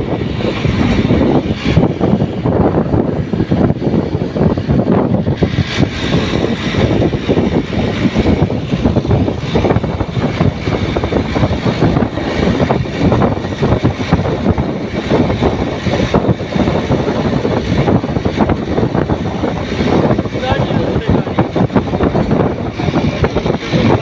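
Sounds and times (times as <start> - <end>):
motorcycle engine and wind rush: 0.0 - 24.0
wind buffeting microphone: 0.0 - 24.0.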